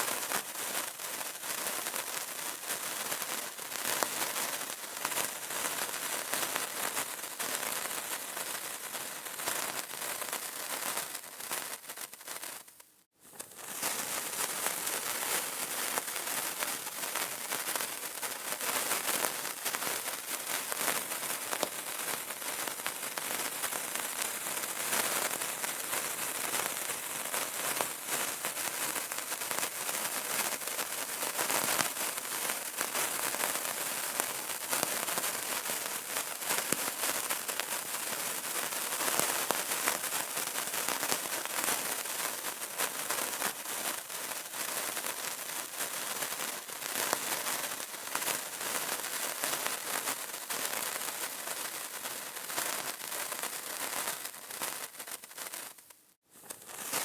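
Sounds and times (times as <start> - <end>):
candle crackling: 0.0 - 57.0.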